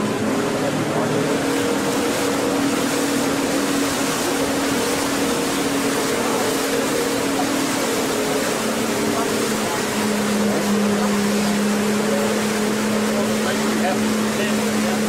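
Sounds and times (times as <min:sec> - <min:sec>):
boat engine droning: 0:00.0 - 0:15.0
water and wind rushing: 0:00.0 - 0:15.0.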